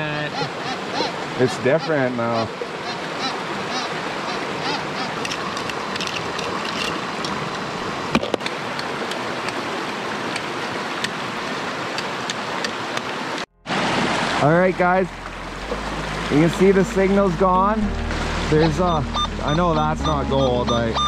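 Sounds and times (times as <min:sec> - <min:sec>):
running water: 0:00.0 - 0:21.0.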